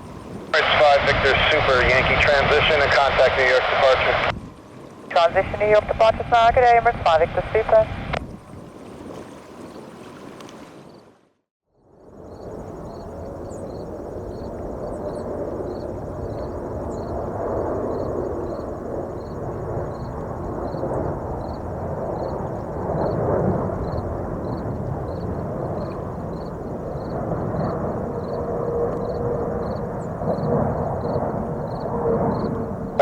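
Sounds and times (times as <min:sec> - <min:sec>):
jet airliner rumble: 0:00.0 - 0:09.7, 0:12.0 - 0:33.0.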